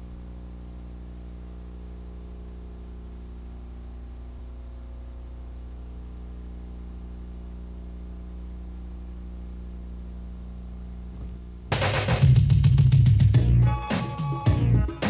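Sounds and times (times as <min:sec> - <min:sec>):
low electrical hum: 0:00.0 - 0:13.8
faint tape hiss: 0:00.0 - 0:15.0.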